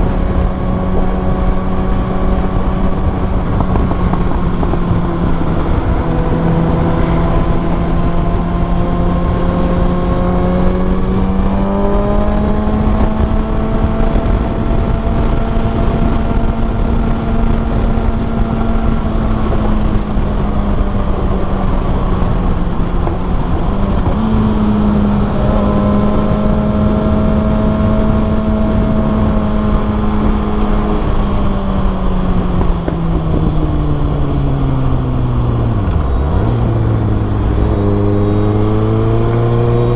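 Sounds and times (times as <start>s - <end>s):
constant rushing noise: 0.0s - 39.9s
motorcycle engine running: 0.0s - 39.9s.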